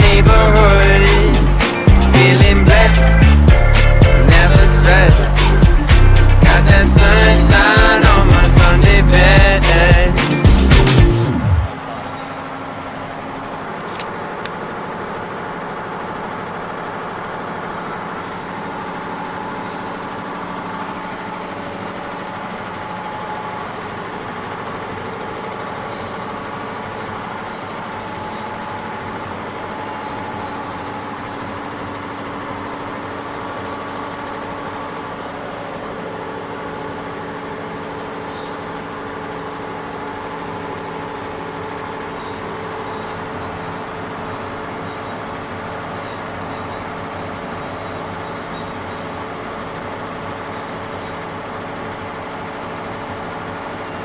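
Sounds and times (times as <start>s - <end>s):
embroidery machine humming: 0.0s - 54.0s.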